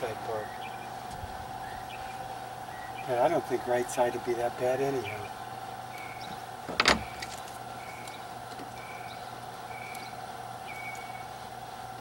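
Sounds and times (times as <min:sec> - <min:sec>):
bird chirping: 0:00.0 - 0:01.0, 0:01.6 - 0:03.3, 0:04.9 - 0:11.8
steady hum: 0:00.0 - 0:12.0.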